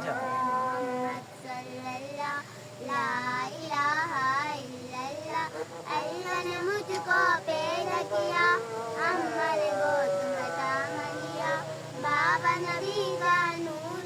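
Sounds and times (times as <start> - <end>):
girls singing devotional song: 0.0 - 14.0.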